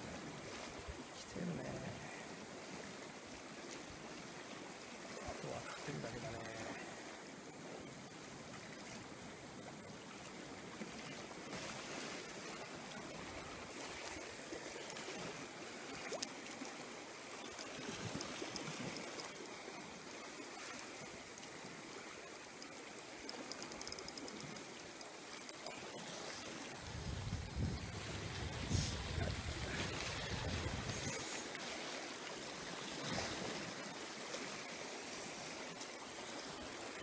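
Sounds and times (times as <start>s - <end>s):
sea water lapping: 0.0s - 37.0s.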